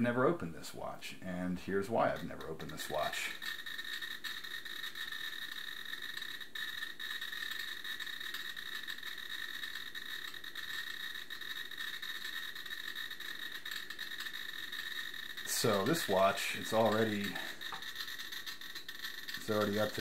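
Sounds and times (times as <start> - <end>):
geiger counter clicking rapidly: 1.6 - 20.0.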